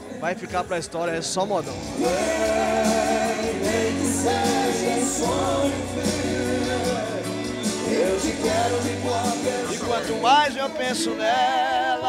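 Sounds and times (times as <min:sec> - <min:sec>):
electric bass and backing band: 0:01.7 - 0:12.0
men singing long notes: 0:01.9 - 0:12.0.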